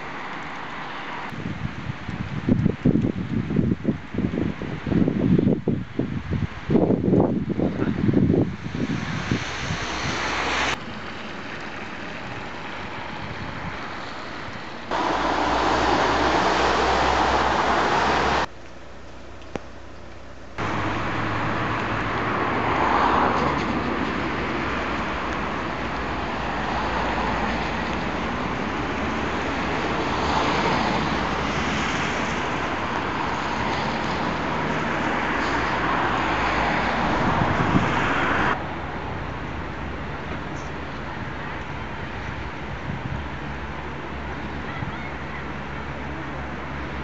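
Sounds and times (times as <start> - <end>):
vehicles passing: 0.0 - 2.8, 7.0 - 47.0.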